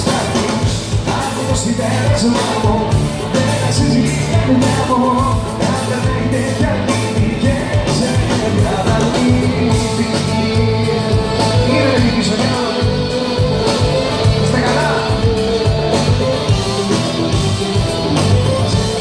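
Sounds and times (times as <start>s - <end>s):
drum beat: 0.0s - 19.0s
live band playing pop music: 0.0s - 19.0s.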